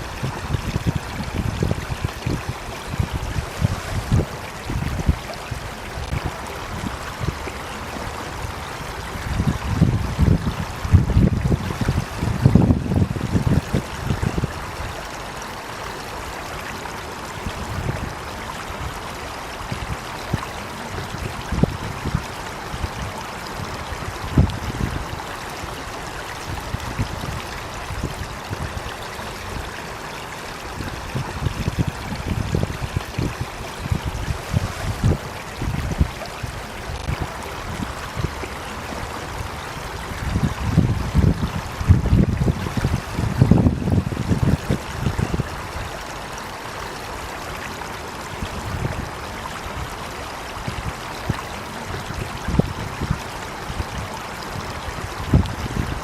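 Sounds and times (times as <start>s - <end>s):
water flowing and splashing: 0.0s - 56.0s.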